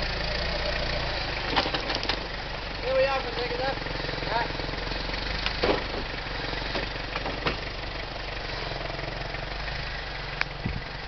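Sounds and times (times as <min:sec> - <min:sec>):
truck engine running at low revs: 0:00.0 - 0:11.0.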